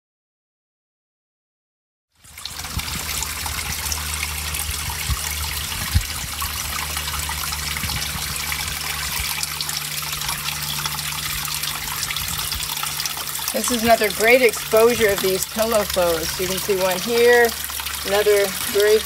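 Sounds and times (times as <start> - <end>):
low steady hum: 2.2 - 19.0
water rushing: 2.2 - 19.0.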